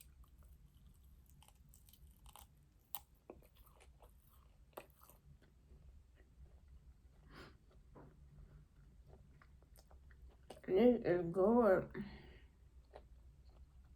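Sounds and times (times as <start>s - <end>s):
quiet chewing: 0.0s - 10.7s, 12.2s - 13.9s.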